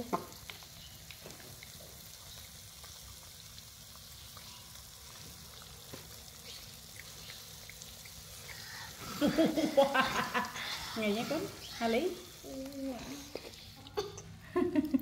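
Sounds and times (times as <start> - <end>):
faint room noise hiss: 0.0 - 15.0.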